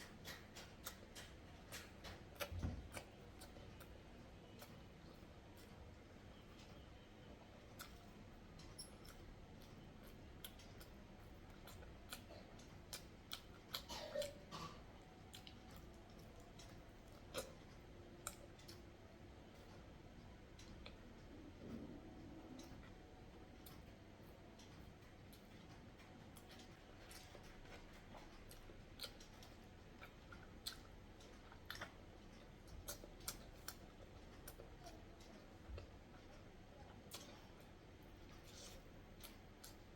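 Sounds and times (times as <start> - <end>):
soft chewing: 0.0 - 39.9.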